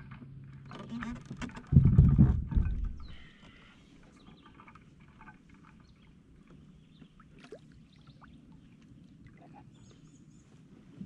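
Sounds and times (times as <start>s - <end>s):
quiet water movement: 0.0s - 11.0s.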